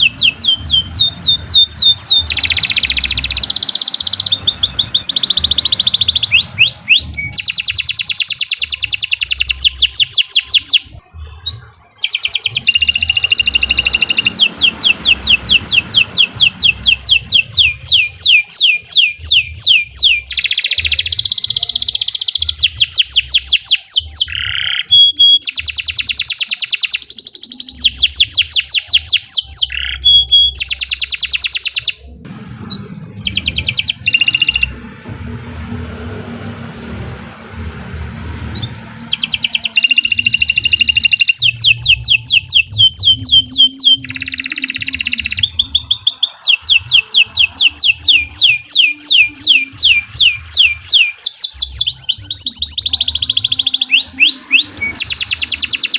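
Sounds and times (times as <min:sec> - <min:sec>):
canary singing rapid trills: 0:00.0 - 0:55.9.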